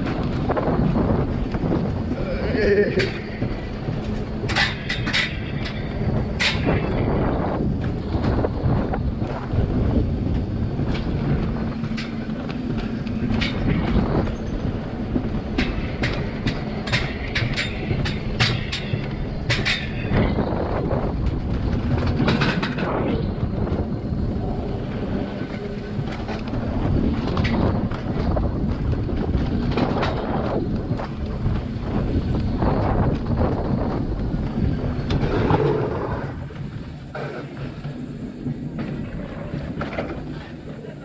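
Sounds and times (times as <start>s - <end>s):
clacks and rattles on track: 0.0s - 41.0s
coaster wheels rumbling hum: 0.0s - 41.0s.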